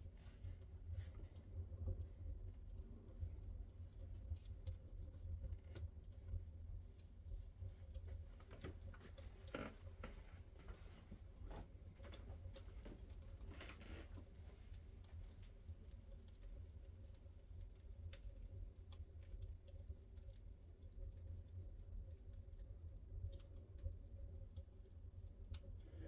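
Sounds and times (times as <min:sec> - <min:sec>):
fireplace fire crackling and popping: 0:00.0 - 0:26.0
low steady rumble: 0:00.0 - 0:26.0.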